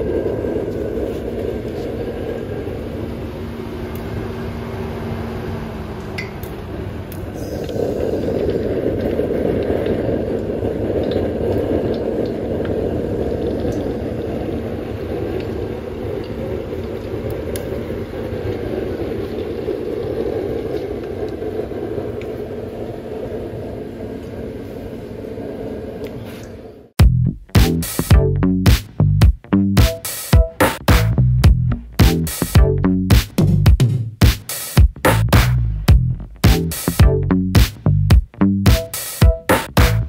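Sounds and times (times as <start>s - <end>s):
burner rushing roar: 0.0s - 24.0s, 27.6s - 40.0s.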